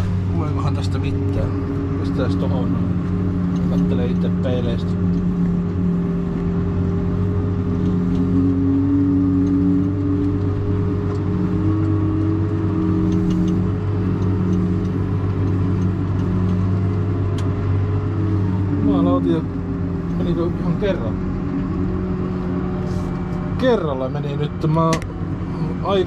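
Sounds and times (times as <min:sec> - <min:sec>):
higher engine tone: 0:00.0 - 0:26.0
tractor engine running: 0:00.0 - 0:26.0.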